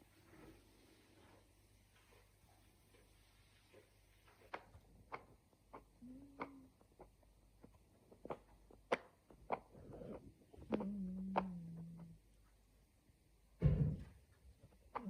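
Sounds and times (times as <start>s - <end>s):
low steady hum: 0.0s - 8.8s, 9.4s - 15.0s.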